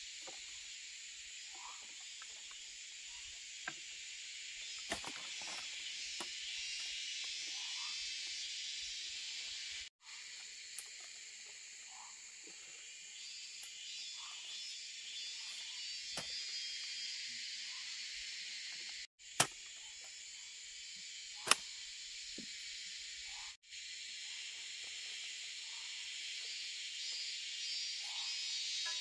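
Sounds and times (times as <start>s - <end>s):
faint chirps: 0.0s - 29.0s
insects chorus: 0.0s - 29.0s.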